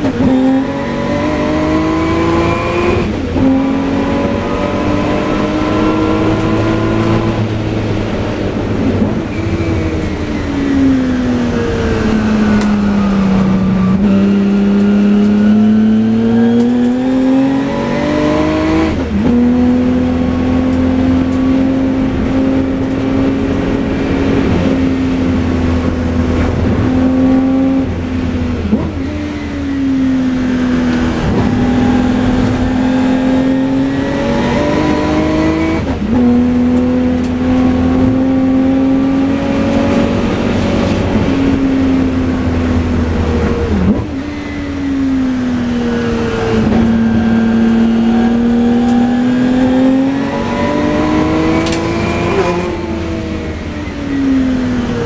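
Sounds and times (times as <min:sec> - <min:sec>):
racing engine under load: 0:00.0 - 0:55.0.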